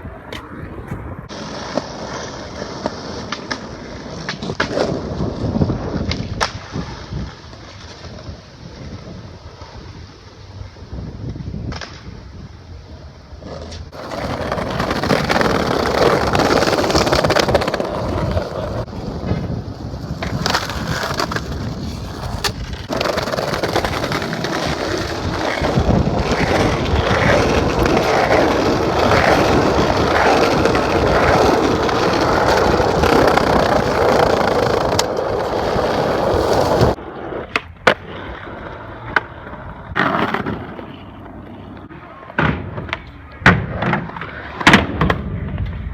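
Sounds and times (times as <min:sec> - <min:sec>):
skateboard wheels rolling on pavement: 0:00.0 - 0:45.9
skateboard clacks: 0:00.2 - 0:09.0, 0:13.4 - 0:45.9.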